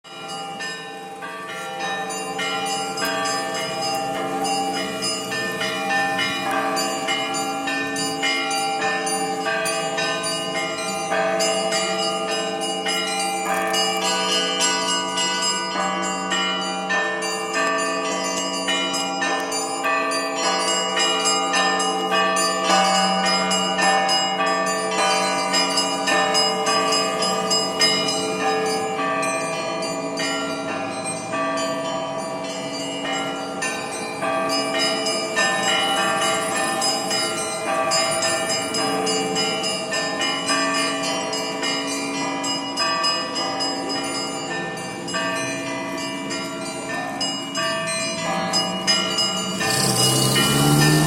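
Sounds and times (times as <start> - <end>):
church bells pealing: 0.0 - 51.0
low hum of large bells: 0.0 - 51.0
quick strikes on small bells: 0.2 - 51.0.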